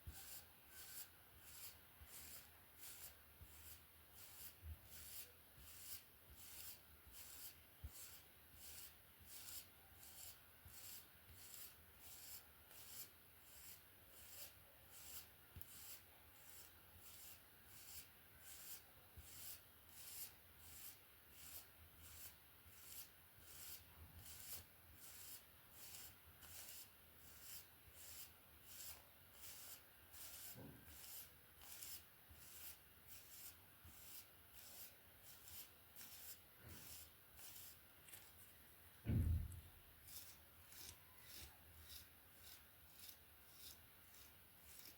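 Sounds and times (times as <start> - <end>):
hairbrush brushing hair: 0.0 - 38.5, 40.0 - 44.9.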